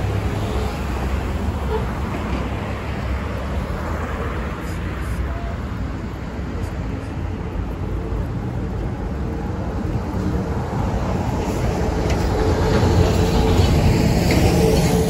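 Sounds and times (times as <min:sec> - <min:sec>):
vehicle traffic rumble: 0:00.0 - 0:15.0.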